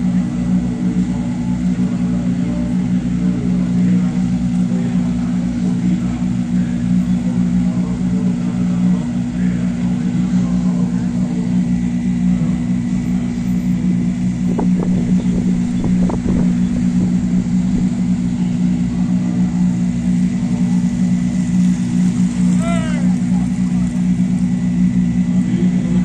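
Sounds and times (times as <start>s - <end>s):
loud engine hum: 0.0s - 26.0s.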